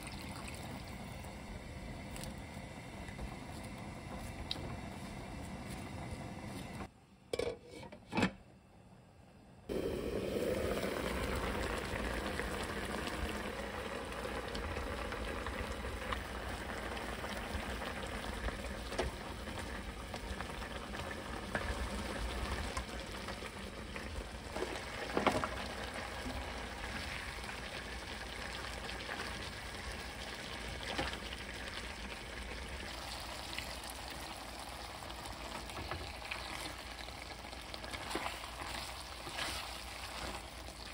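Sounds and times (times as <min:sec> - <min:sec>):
sauce boiling and sizzling: 0:00.0 - 0:06.8, 0:09.7 - 0:40.9.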